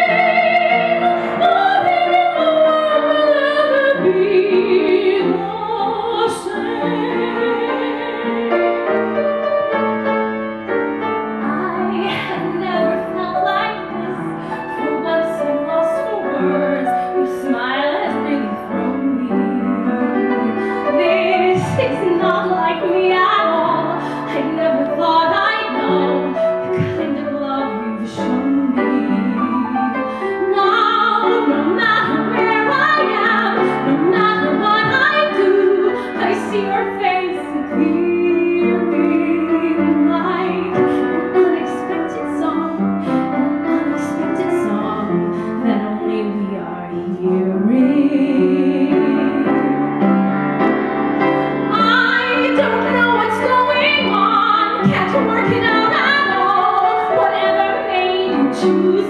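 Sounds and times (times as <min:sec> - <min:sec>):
woman singing with vibrato: 0:00.0 - 0:08.9, 0:11.4 - 0:50.0, 0:51.3 - 0:59.0
upright piano: 0:00.0 - 0:59.0.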